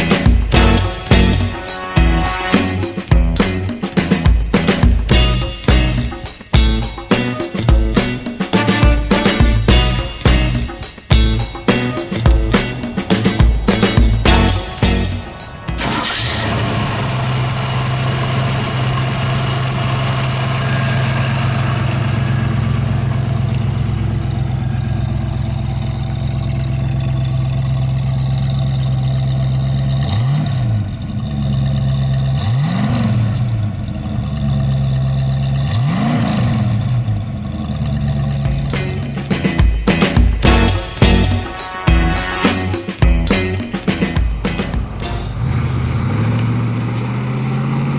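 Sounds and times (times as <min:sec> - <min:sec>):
car engine idling: 0:00.0 - 0:41.4, 0:43.0 - 0:47.9
engine revving: 0:00.0 - 0:47.9.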